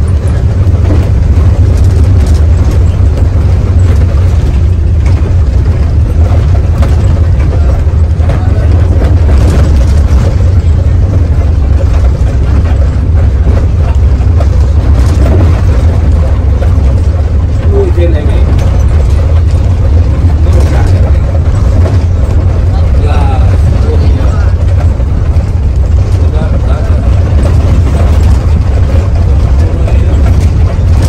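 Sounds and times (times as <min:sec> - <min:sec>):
bus diesel engine rumble: 0:00.0 - 0:31.0
road and body noise: 0:00.0 - 0:31.0.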